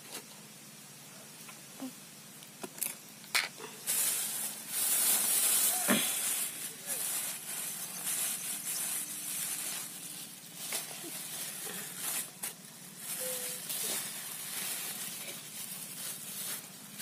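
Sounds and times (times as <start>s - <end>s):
plastic bag rustling and crinkling: 2.6s - 17.0s.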